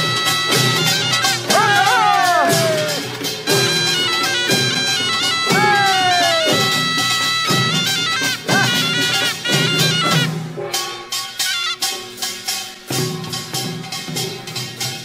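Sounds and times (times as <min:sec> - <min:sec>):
drum strokes: 0:00.0 - 0:15.0
shawm melody: 0:00.0 - 0:15.0.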